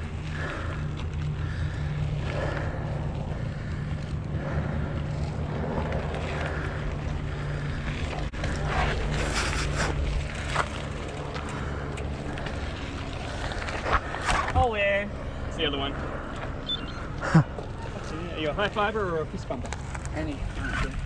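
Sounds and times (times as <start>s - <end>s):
bike rolling on dirt trail: 0.0s - 21.0s.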